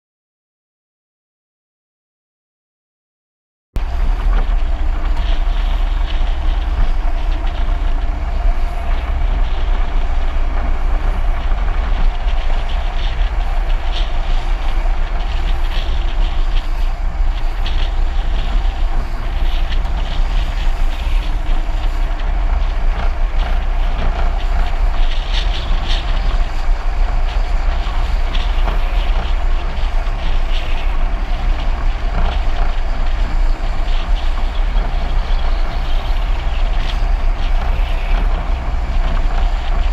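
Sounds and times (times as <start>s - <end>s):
car tyre and road noise: 3.8s - 39.9s
wind buffeting microphone: 3.8s - 39.9s.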